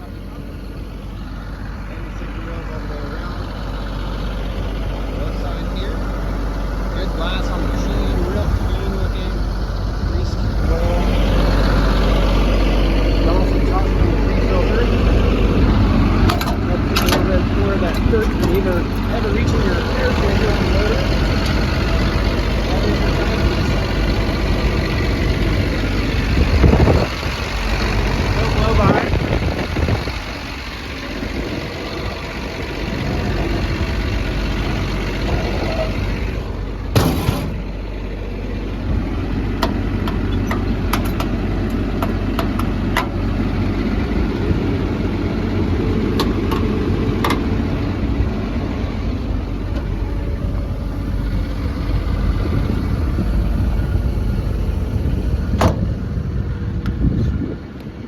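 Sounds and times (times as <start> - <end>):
diesel excavator engine idling: 0.0 - 58.0.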